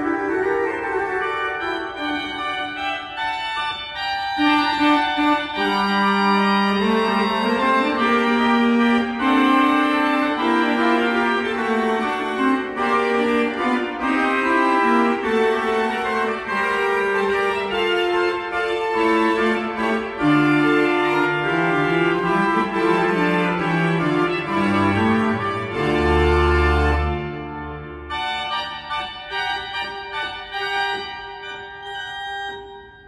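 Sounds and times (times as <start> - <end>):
pipe organ playing baroque music: 0.0 - 33.0.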